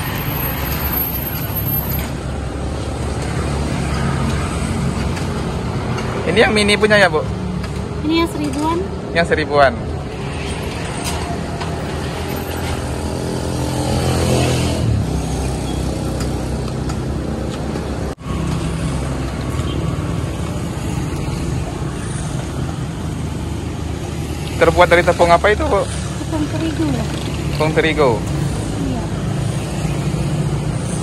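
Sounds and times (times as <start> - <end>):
vehicle passing by: 0.0 - 31.0.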